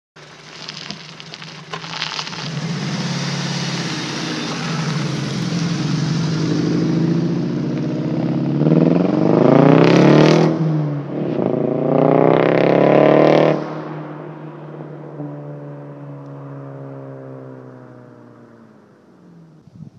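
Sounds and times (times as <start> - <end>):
car engine idling and revving: 0.2 - 19.8.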